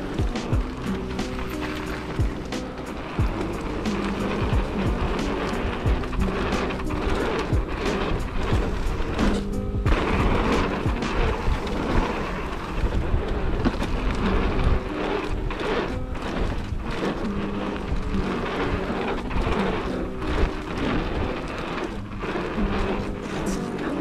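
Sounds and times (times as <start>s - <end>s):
background music: 0.0s - 24.0s
mountain bike tyre and frame noise: 0.0s - 24.0s
wind rumbling on microphone: 0.0s - 24.0s.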